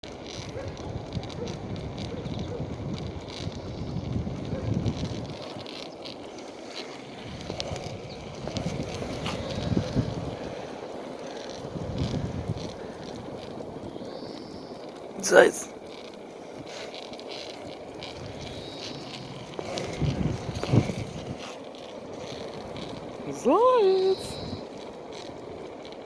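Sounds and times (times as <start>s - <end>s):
wind noise on microphone: 0.0s - 6.4s, 7.0s - 14.7s, 17.6s - 26.0s
wheels rolling over pavement: 0.0s - 26.0s.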